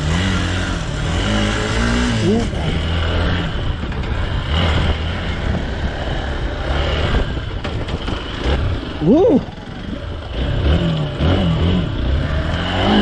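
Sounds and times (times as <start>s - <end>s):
motorcycle engine revving: 0.0s - 13.0s
steady rushing noise: 0.1s - 12.8s.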